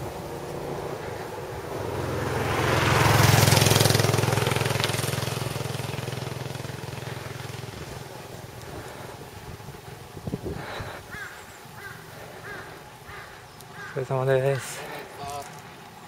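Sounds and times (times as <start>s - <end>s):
motorcycle passing by: 0.0s - 16.0s.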